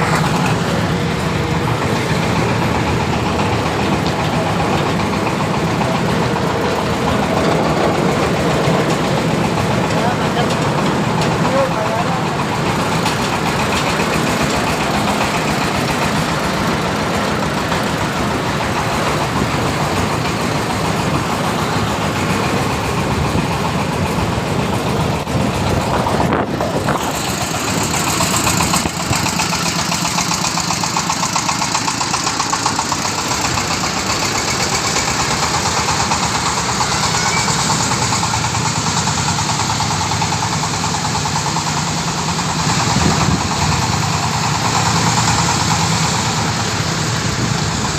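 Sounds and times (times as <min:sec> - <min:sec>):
corn sheller running: 0:00.0 - 0:47.9.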